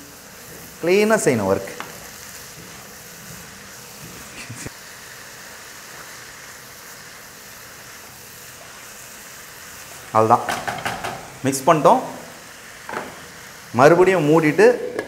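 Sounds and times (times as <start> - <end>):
cabbage sizzling: 0.0 - 15.0.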